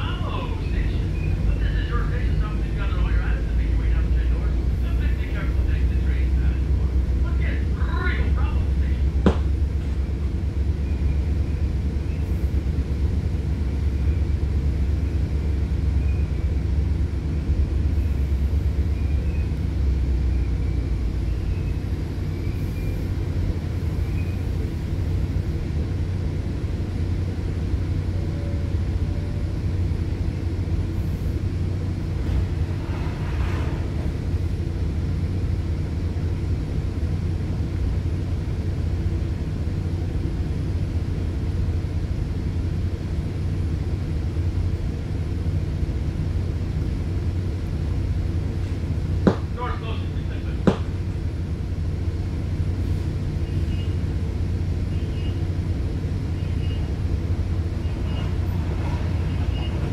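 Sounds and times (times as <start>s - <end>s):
train coach rumbling: 0.0s - 59.9s.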